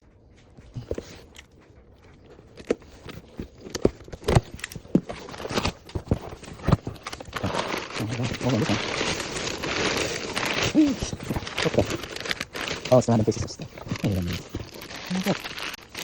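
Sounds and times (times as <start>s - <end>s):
package rustling: 2.2s - 16.0s.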